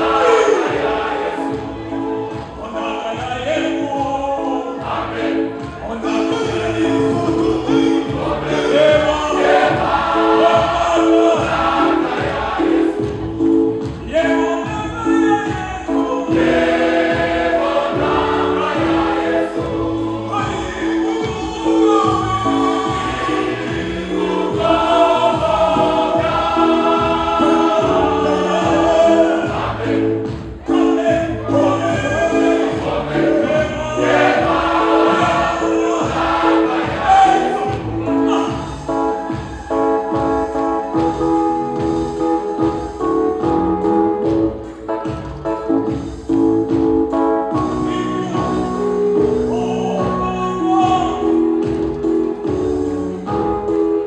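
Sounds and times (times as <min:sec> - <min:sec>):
choir singing gospel: 0:00.0 - 0:54.0
instrumental backing with bass: 0:00.0 - 0:54.0
steady beat: 0:00.0 - 0:54.0.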